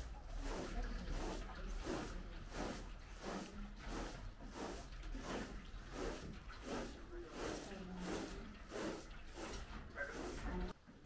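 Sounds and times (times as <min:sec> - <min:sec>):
broom sweeping carpet: 0:00.0 - 0:10.8.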